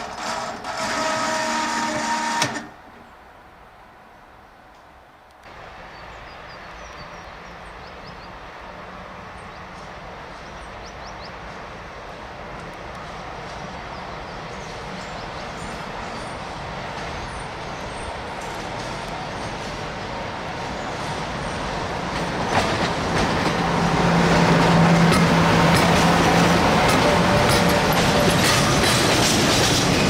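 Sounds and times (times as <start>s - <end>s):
train rolling on rails: 0.0s - 30.0s.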